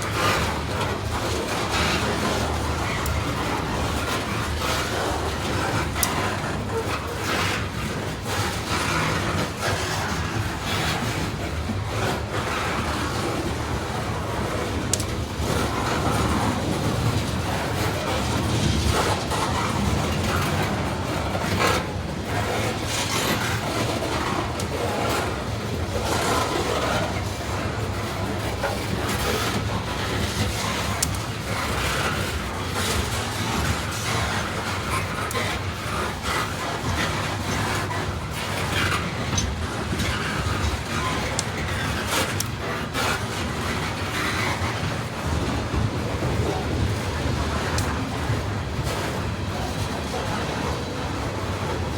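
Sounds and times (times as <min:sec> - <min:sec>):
freight train wheels rumbling on track: 0:00.0 - 0:51.9
sharp clicks of train wheels: 0:00.0 - 0:51.9.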